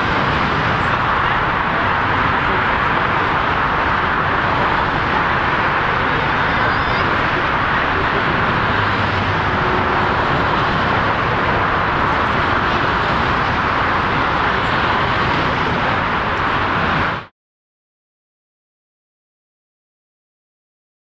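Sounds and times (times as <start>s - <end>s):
jet engine noise: 0.0s - 17.3s.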